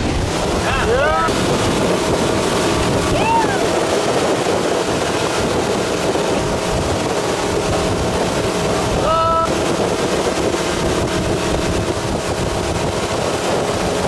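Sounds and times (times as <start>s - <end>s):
boat engine running: 0.0s - 14.0s
water rushing: 0.0s - 14.0s
wind buffeting microphone: 0.0s - 14.0s.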